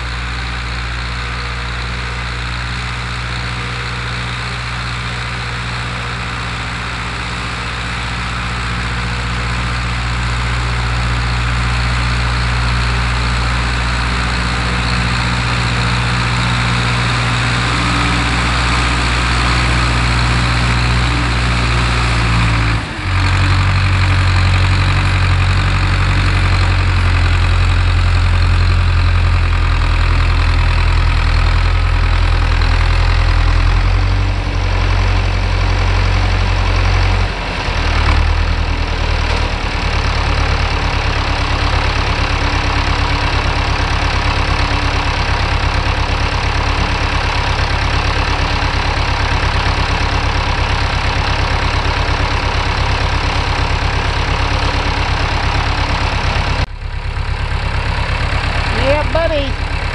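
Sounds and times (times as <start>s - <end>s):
tractor diesel engine chugging: 0.0s - 59.9s.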